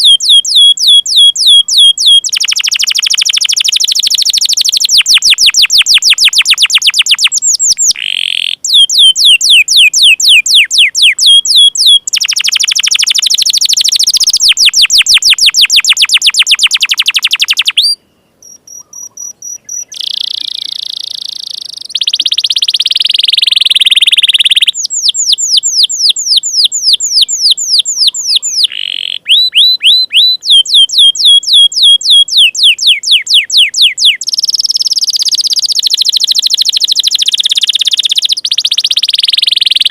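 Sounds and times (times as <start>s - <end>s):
buzzy rattling bird phrase: 0.0s - 39.9s
canary singing trills: 0.0s - 39.9s.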